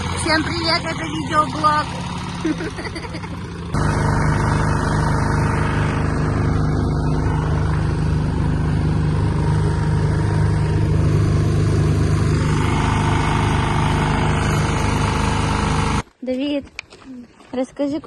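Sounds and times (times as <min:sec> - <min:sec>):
car engine and road noise: 0:00.0 - 0:16.1.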